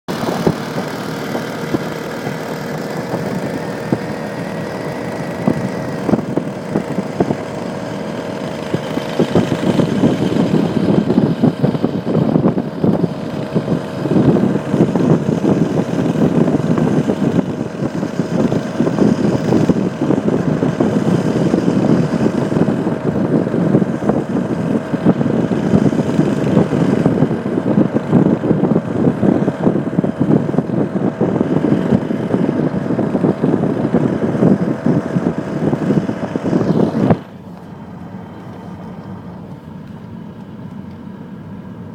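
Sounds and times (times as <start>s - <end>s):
small motorbike engine running: 0.1s - 41.9s.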